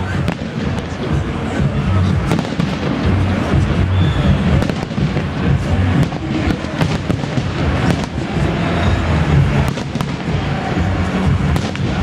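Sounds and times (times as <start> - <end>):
fireworks crackling: 0.0 - 12.0
low rumble of fireworks booms: 0.2 - 12.0.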